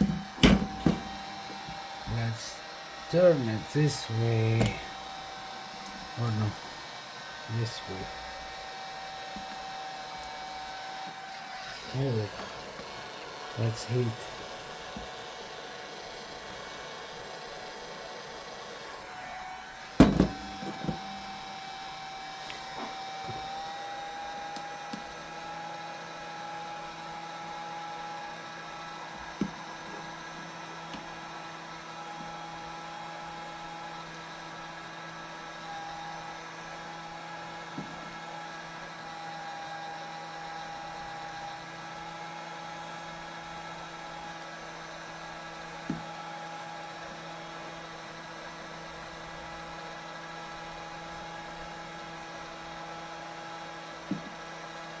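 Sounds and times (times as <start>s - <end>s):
hot-air blower whine and hiss: 0.0s - 55.0s.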